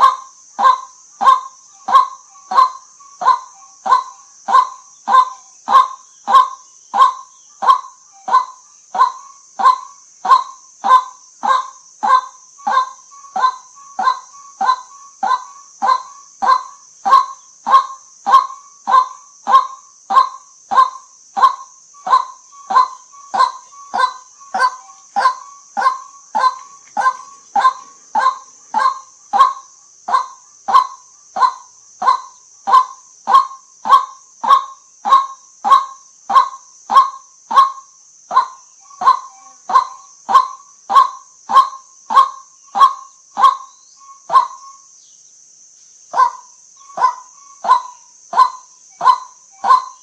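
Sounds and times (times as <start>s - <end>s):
waterhen calling: 0.0s - 44.8s, 46.2s - 50.0s
steady high hiss: 0.0s - 50.0s.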